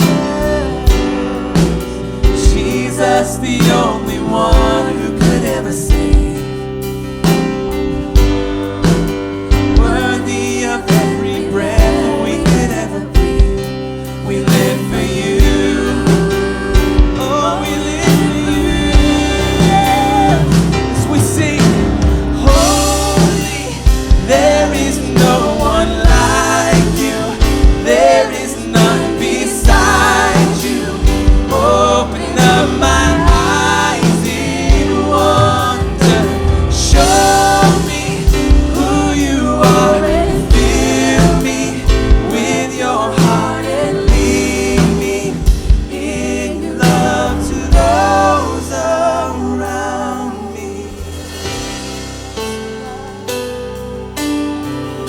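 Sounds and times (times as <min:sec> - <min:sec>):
drum kit hits: 0:00.0 - 0:49.8, 0:50.9 - 0:55.0
bass guitar: 0:00.0 - 0:55.0
person singing: 0:00.0 - 0:55.0
piano: 0:00.0 - 0:55.0.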